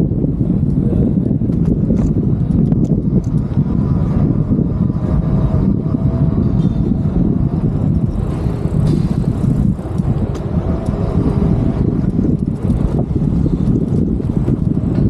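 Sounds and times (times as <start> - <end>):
street traffic: 0.0 - 15.0
wind rumble on microphone: 0.0 - 15.0.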